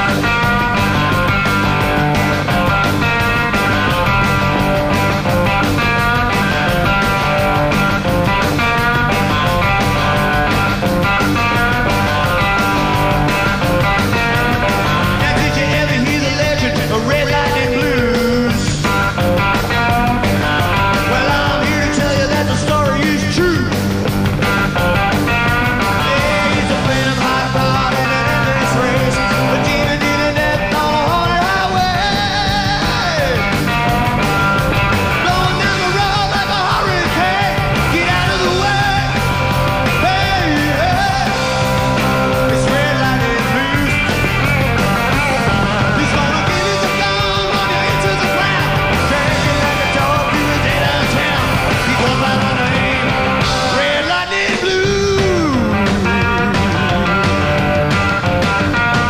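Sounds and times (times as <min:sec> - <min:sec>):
electric guitar bending notes: 0:00.0 - 0:59.0
live rock band music: 0:00.0 - 0:59.0.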